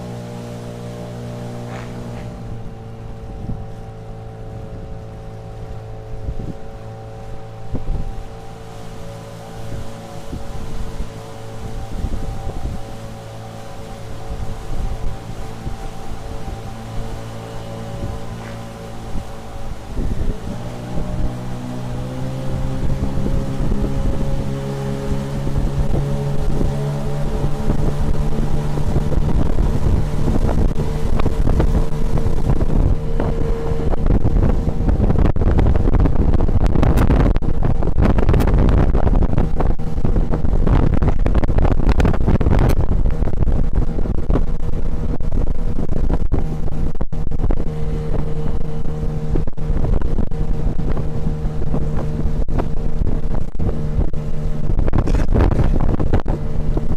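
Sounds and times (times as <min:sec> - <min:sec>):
outboard motor running: 0:00.0 - 0:56.9
rushing water: 0:00.0 - 0:56.9
wind on microphone: 0:00.0 - 0:56.9.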